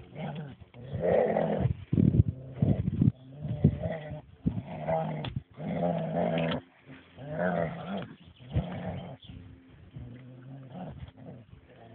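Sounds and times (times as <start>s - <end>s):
dog growling: 0.0s - 9.3s, 10.0s - 11.9s.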